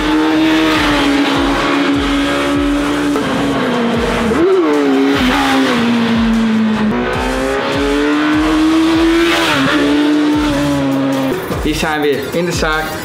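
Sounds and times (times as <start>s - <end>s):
motorcycle engine revving high: 0.0s - 11.6s.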